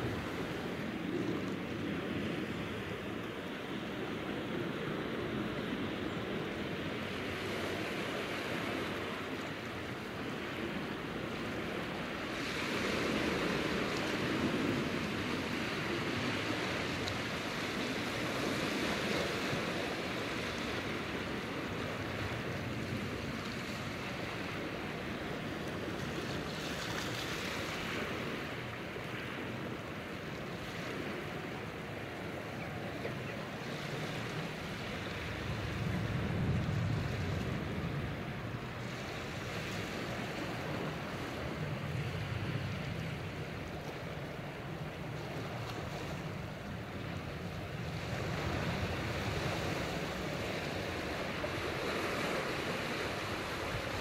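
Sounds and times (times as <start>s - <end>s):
waves washing over rocks: 0.0s - 54.0s.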